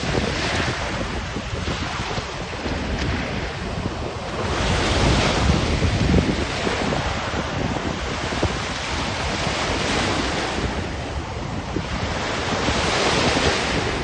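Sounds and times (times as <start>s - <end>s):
surf washing onto shore: 0.0s - 14.0s
wind buffeting microphone: 0.0s - 14.0s.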